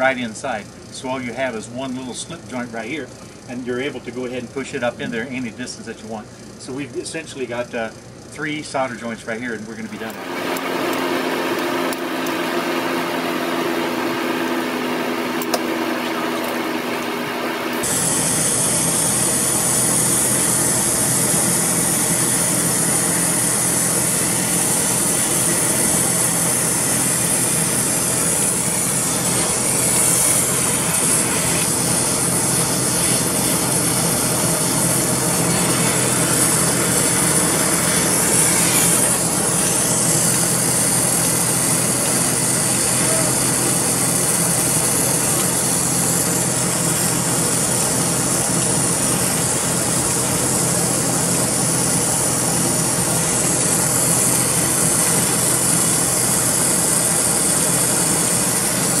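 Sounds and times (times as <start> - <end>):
torch flame hissing: 9.8 - 59.0.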